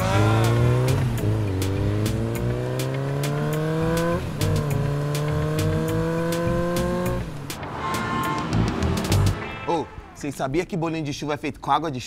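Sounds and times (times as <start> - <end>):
motorcycle engine accelerating: 0.0 - 10.4.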